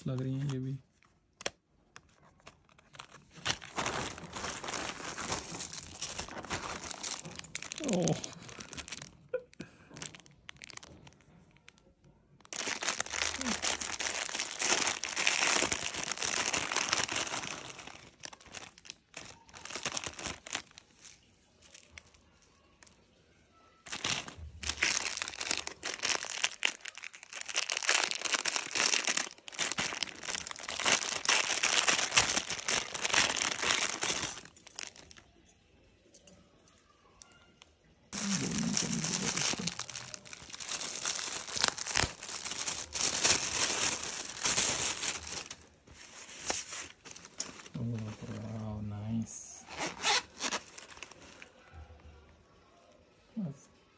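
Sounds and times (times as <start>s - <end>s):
plastic bags crinkling: 0.0s - 23.1s, 23.8s - 35.4s, 38.1s - 51.5s.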